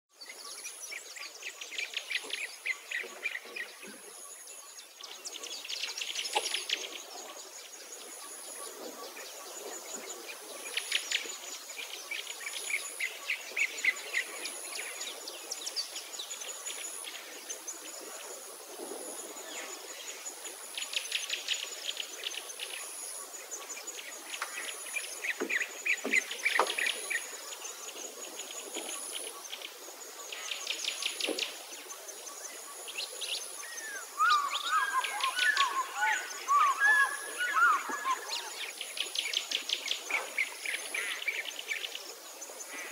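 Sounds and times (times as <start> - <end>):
birds chirping and trilling: 0.1 - 42.9.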